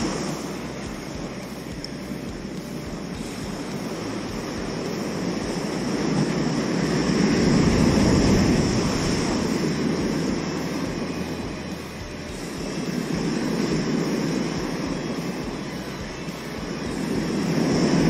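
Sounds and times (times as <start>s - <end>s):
wave rushing: 0.0s - 18.0s.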